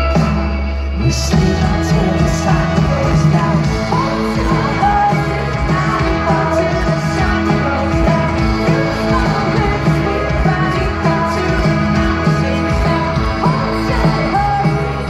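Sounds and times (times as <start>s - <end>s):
lead vocal singing: 0.0s - 15.0s
live folk-rock band playing: 0.0s - 15.0s.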